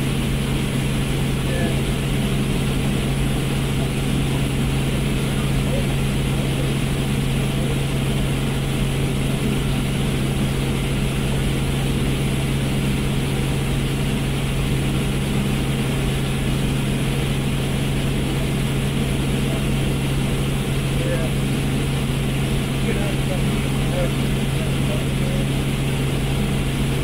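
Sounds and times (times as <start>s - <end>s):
helicopter cabin drone: 0.0s - 27.0s.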